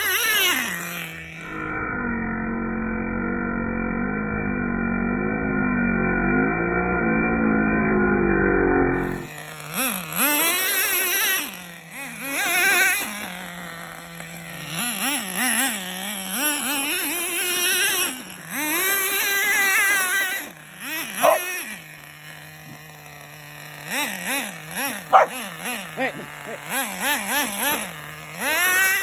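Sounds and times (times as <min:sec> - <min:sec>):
small nitro engine revving: 0:00.0 - 0:29.0.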